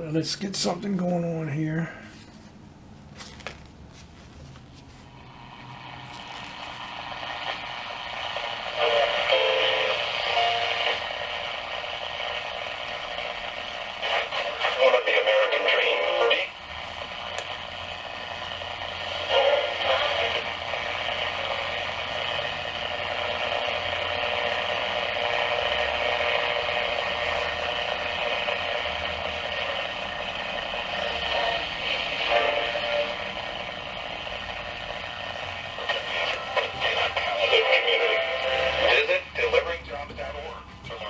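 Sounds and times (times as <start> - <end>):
radio crackles: 3.1 - 41.0
radio static hiss: 5.0 - 41.0.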